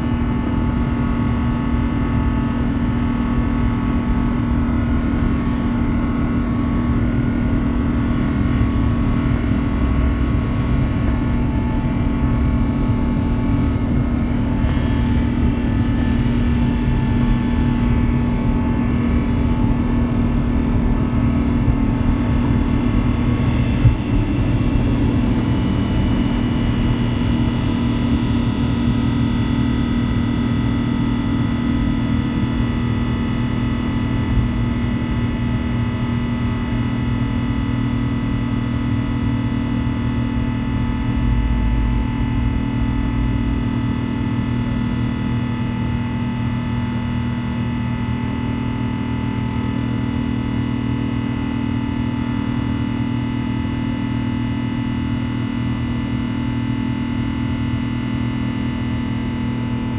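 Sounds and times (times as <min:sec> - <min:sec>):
jet engine roar with whine: 0:00.0 - 0:59.9.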